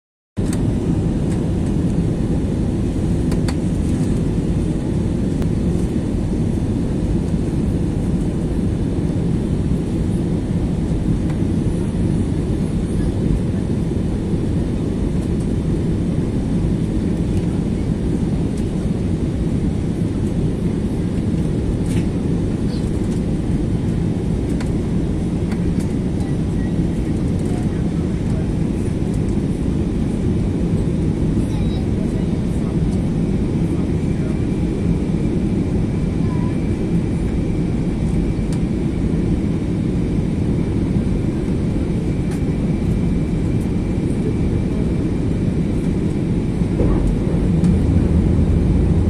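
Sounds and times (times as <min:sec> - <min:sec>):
airliner cabin engine rumble: 0:00.4 - 0:49.0.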